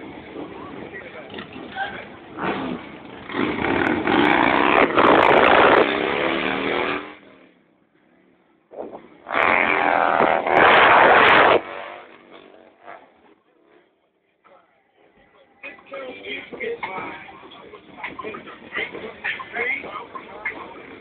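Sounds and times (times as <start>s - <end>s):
motorcycle engines: 0.0s - 21.0s.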